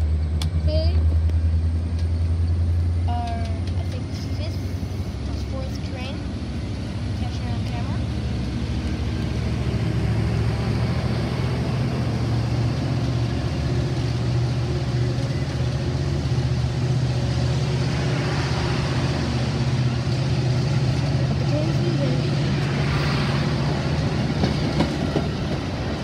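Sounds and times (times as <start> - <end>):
diesel engine drone: 0.0 - 26.0
train cars rumbling: 0.0 - 26.0.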